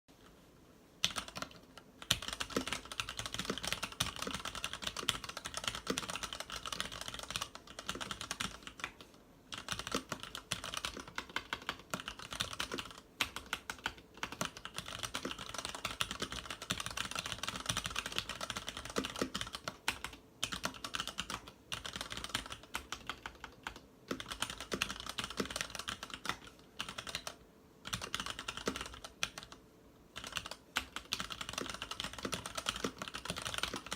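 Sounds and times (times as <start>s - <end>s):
fast typing on mechanical keyboard: 1.0s - 29.6s, 30.2s - 33.9s.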